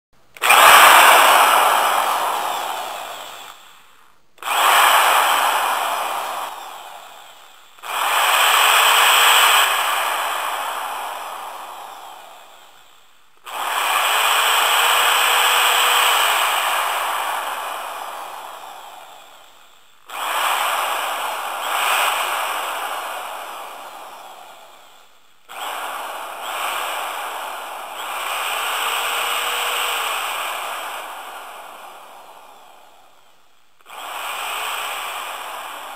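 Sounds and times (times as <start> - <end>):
electric drill whirring: 0.3 - 35.9.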